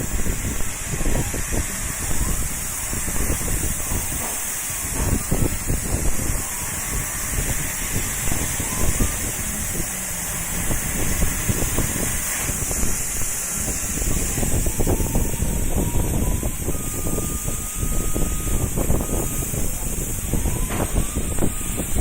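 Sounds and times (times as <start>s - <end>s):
laser machine hiss: 0.0s - 22.0s.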